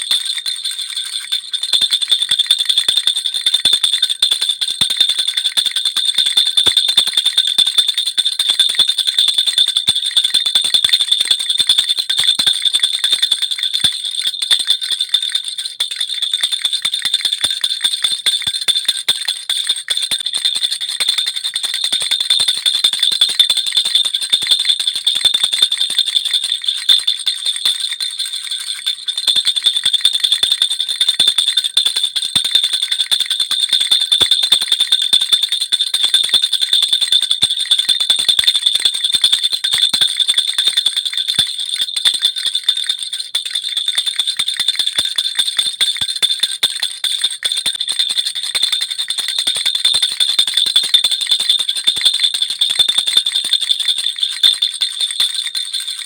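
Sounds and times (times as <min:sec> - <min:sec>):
baby rattle bells jingling: 0:00.0 - 0:36.5, 0:43.3 - 0:56.0.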